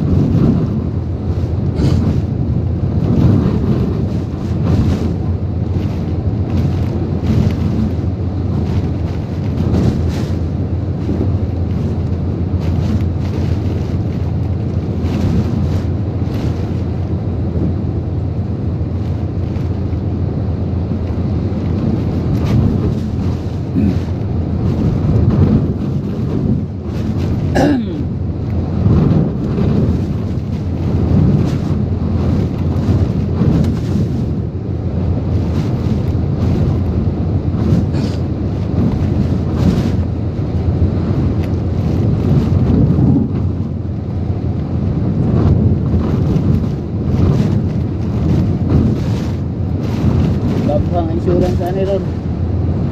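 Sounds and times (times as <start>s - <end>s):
strong wind gusting: 0.0s - 52.9s
wind noise on microphone: 0.0s - 52.9s.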